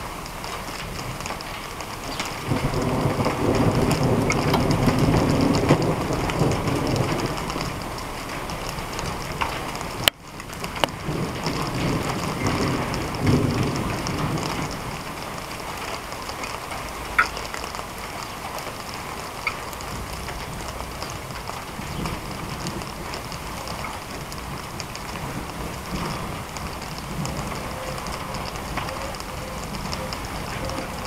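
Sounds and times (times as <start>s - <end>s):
steady rain: 0.0s - 31.0s
distant thunder rumble: 0.8s - 31.0s.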